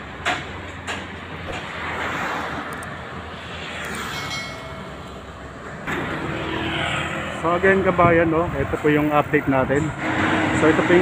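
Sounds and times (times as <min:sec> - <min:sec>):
passing vehicle rushing: 0:00.6 - 0:11.0.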